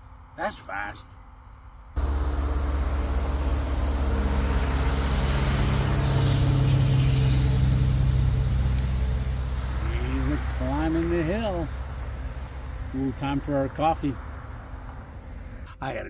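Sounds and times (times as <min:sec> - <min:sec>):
truck diesel engine droning: 0:02.0 - 0:15.6.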